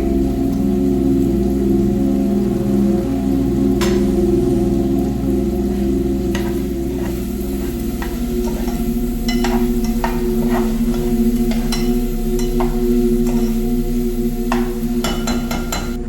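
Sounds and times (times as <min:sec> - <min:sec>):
steady low held tones: 0:00.0 - 0:16.0
utensil stirring in a pan: 0:02.6 - 0:16.0.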